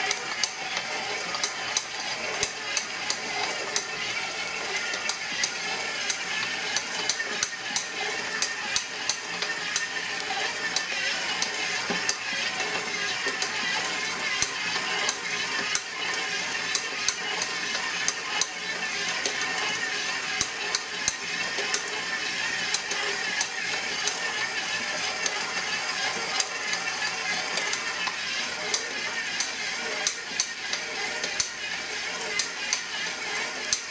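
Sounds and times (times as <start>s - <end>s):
stand mixer motor hum: 0.0s - 33.9s.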